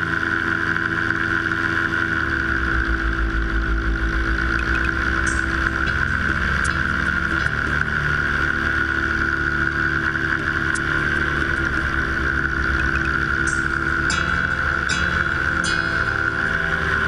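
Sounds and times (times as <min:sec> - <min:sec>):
aircraft engine droning: 0:00.0 - 0:17.0.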